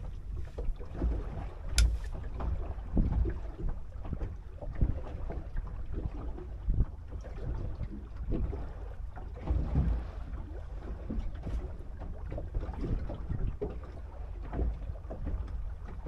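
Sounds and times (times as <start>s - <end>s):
water slapping against hull: 0.0s - 16.0s
wind rumbling on microphone: 0.0s - 16.0s.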